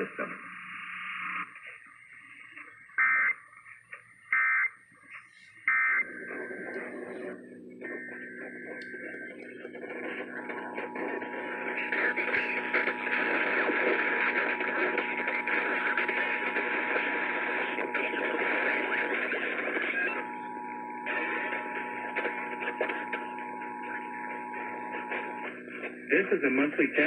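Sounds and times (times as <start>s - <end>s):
radio static: 0.0s - 27.0s.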